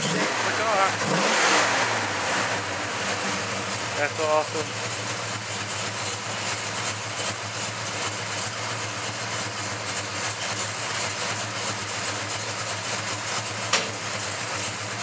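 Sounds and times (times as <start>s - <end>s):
rough car engine idling: 0.0s - 15.0s.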